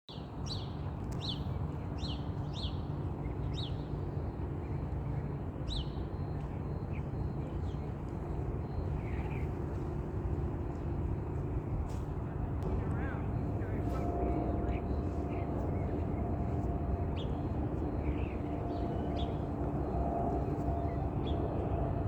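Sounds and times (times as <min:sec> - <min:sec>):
distant jet engines rumbling: 0:02.9 - 0:22.0.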